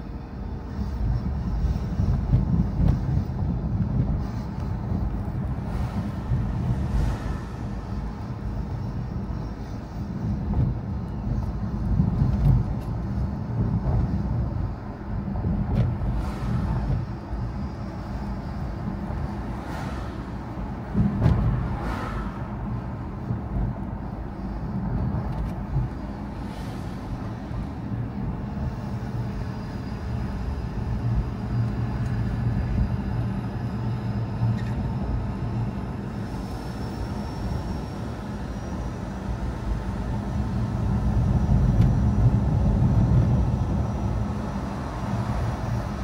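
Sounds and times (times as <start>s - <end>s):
car engine and road noise: 0.0s - 46.0s
faint high whine: 0.0s - 46.0s.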